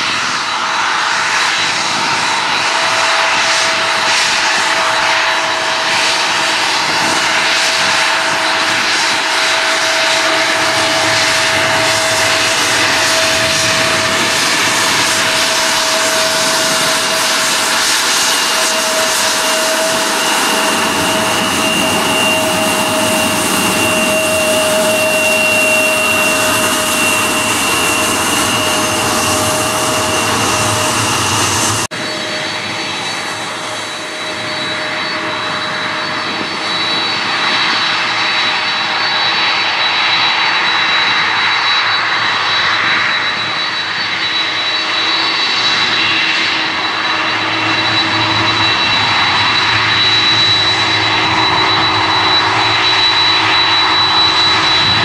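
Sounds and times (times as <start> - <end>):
jet engine roar: 0.0 - 55.0
jet engines whining: 0.0 - 55.0.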